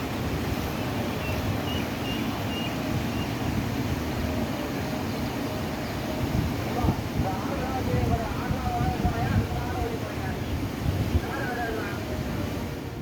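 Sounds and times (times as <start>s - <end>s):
floodwater rushing over bridge: 0.0s - 13.0s.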